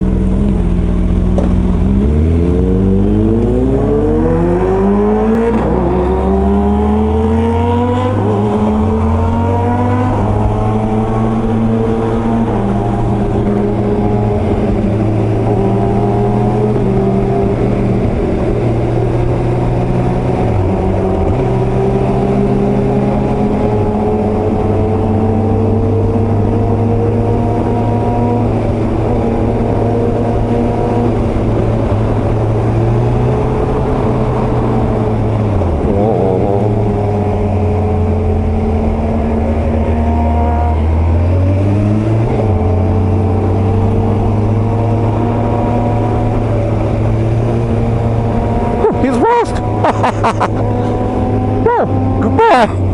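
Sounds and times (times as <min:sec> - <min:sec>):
motorcycle engines revving: 0:00.0 - 0:52.9.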